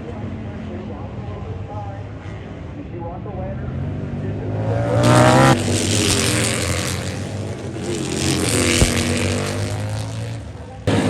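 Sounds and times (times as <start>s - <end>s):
race motorcycles passing: 0.0s - 11.0s.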